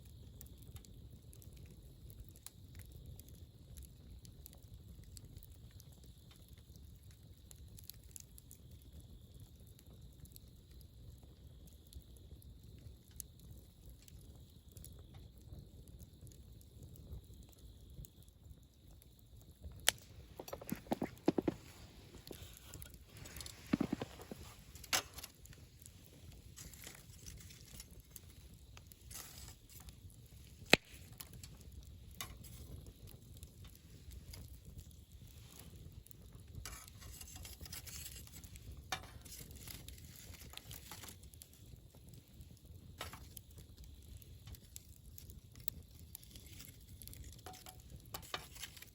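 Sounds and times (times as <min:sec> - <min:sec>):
campfire rumbling: 0:00.0 - 0:48.9
fire crackling and popping: 0:00.0 - 0:48.9.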